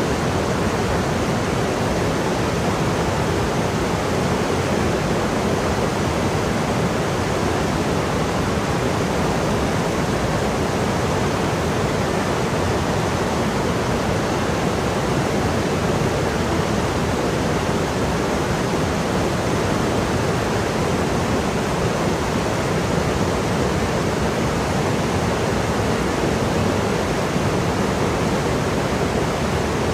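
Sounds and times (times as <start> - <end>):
stream water rushing: 0.0 - 29.9.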